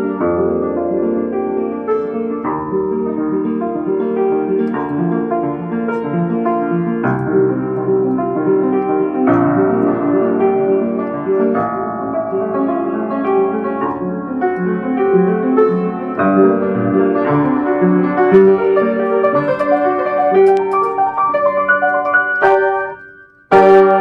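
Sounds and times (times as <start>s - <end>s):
solo piano: 0.0s - 24.0s.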